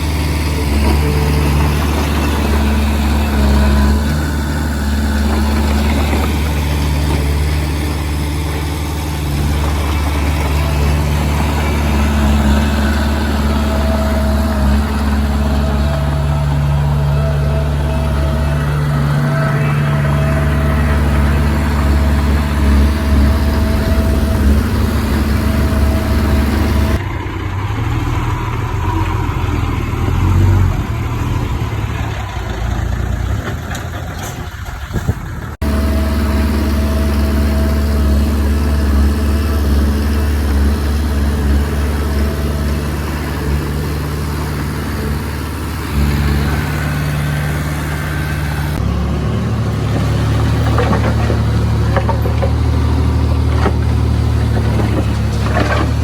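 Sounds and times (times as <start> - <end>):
diesel machinery engines running: 0.0 - 56.0.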